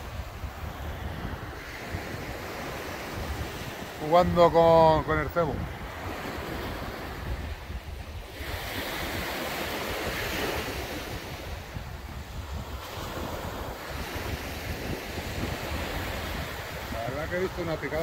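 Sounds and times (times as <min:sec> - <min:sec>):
sea waves breaking on beach: 0:00.0 - 0:18.0
wind buffeting microphone: 0:00.0 - 0:18.0.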